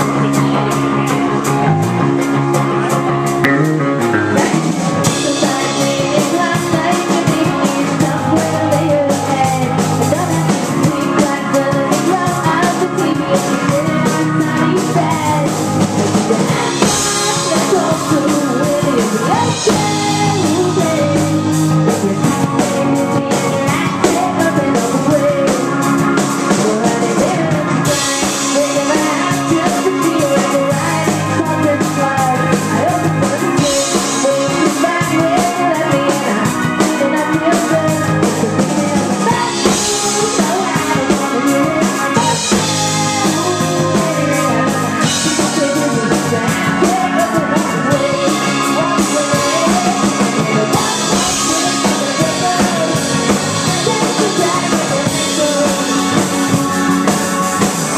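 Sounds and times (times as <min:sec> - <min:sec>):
rock band playing live: 0:00.0 - 0:57.9.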